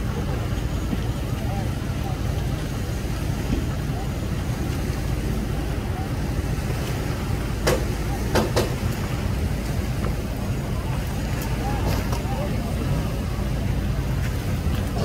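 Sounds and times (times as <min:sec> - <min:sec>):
engine idling rumble: 0:00.0 - 0:15.0.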